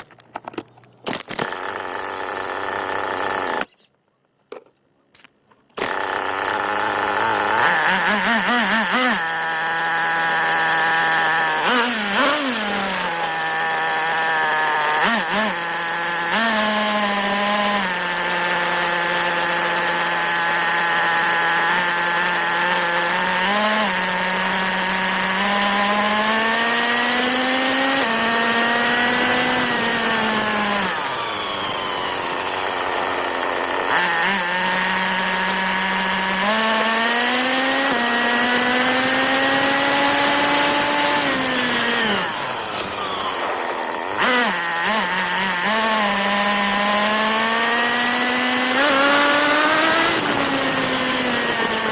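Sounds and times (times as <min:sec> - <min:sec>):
small engine revving: 0:01.1 - 0:03.9, 0:05.7 - 0:51.9.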